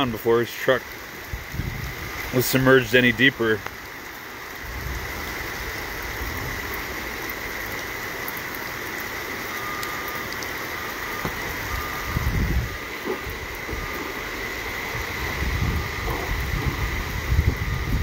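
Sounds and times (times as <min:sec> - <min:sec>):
rain and floodwater rushing: 0:00.0 - 0:18.0.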